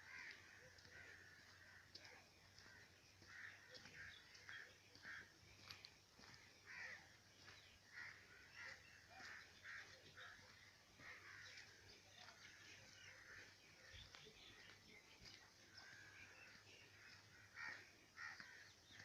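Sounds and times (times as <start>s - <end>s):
faint bird calls: 0.0s - 19.0s.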